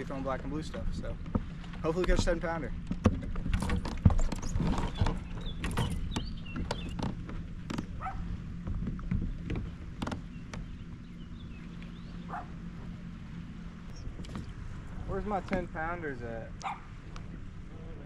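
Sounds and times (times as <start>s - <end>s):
knocks and clatter in a plastic kayak: 0.0s - 16.0s
steady low rumble: 0.0s - 18.0s.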